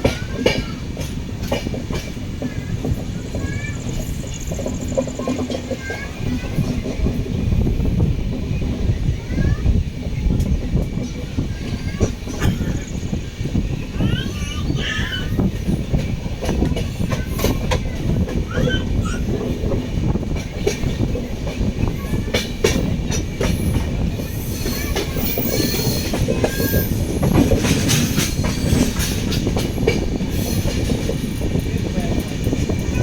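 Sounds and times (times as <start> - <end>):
train coaches rumbling: 0.0 - 33.0
wheels clicking over rail joints: 0.0 - 33.0.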